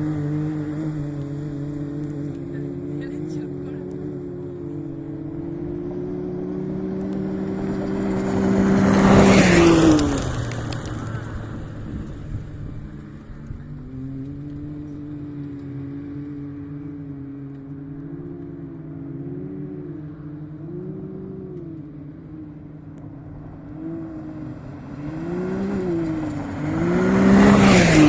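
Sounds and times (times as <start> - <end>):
off-road vehicle engine passing: 0.0 - 28.0
second engine: 0.0 - 28.0.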